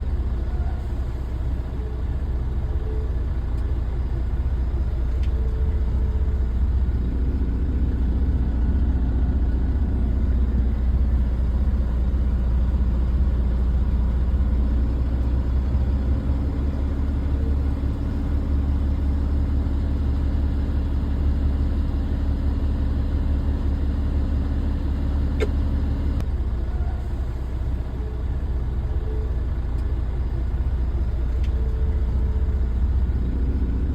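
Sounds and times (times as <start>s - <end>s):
truck engine rumbling: 0.0s - 33.9s.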